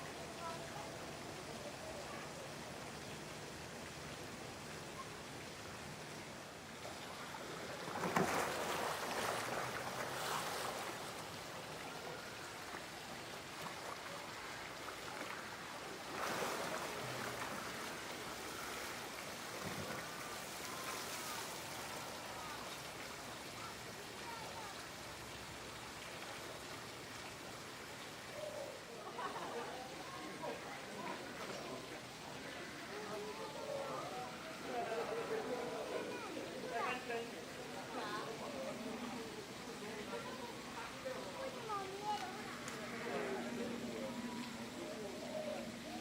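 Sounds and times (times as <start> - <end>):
running water: 0.0 - 46.0
rushes of water: 0.0 - 46.0.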